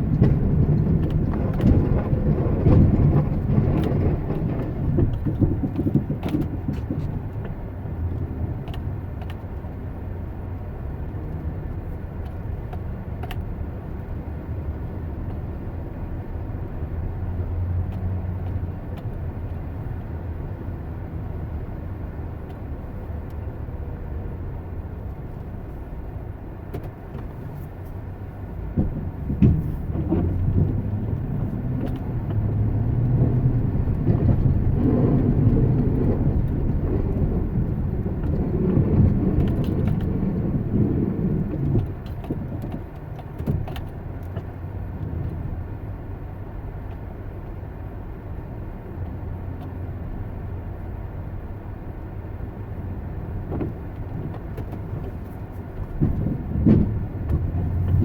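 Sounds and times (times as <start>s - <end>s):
motor vehicle rumble: 0.0s - 58.0s.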